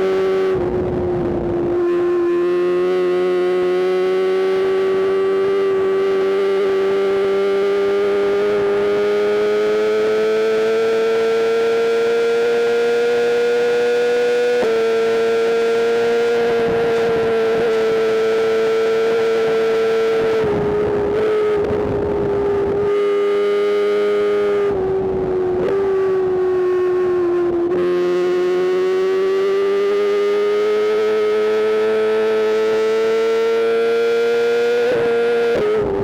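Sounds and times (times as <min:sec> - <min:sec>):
motorcycle engine wailing at high revs: 0:00.0 - 0:36.0.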